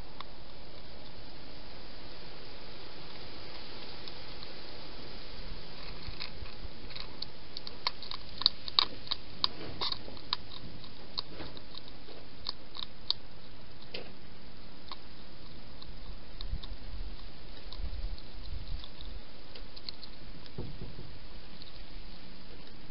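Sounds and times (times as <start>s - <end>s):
steady hiss: 0.0s - 22.9s
hedgehog crunching dry food: 2.8s - 22.9s.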